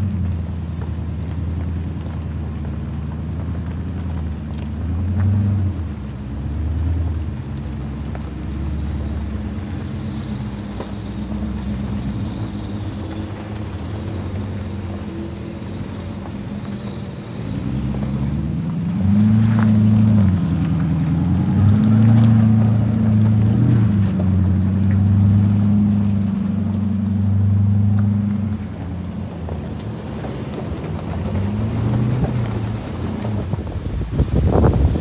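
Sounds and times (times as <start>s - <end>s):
engine at low revs: 0.0s - 35.0s.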